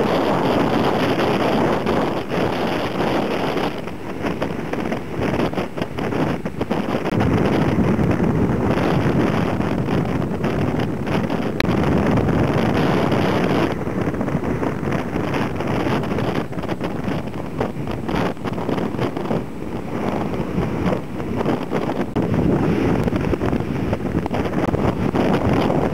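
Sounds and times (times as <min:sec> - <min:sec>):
surf breaking over rocks: 0:00.0 - 0:25.9
wind buffeting microphone: 0:00.0 - 0:25.9.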